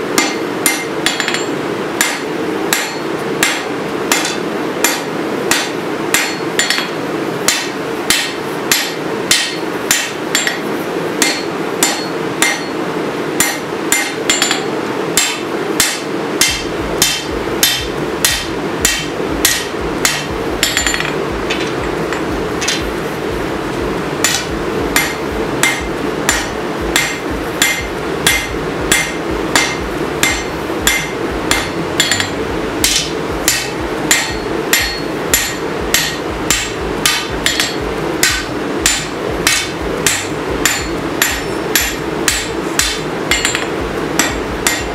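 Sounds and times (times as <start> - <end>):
steady hum: 0.0 - 44.9
hammer striking steel on anvil: 0.1 - 12.8, 13.4 - 23.0, 24.2 - 44.9.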